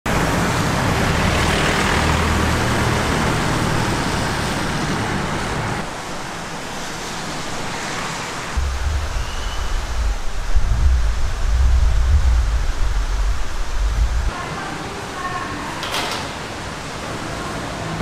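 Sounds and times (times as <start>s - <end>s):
road traffic noise: 0.1s - 18.0s.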